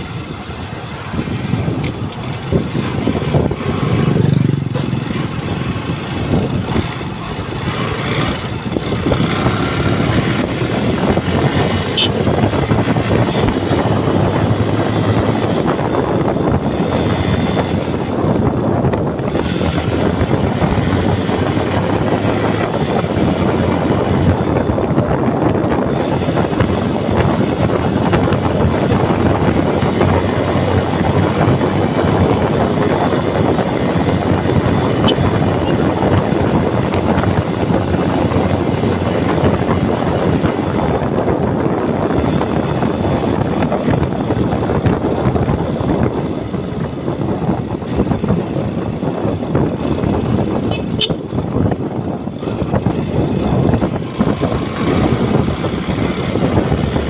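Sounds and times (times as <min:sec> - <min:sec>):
vehicle rumble: 0:00.0 - 0:57.0
wind buffeting microphone: 0:00.0 - 0:57.0.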